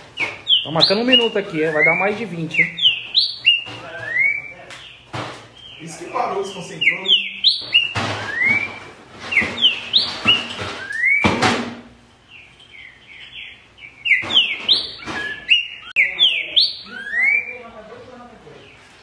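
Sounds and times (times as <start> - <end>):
bird singing whistled notes: 0.2 - 5.0, 5.6 - 11.3, 12.3 - 17.8.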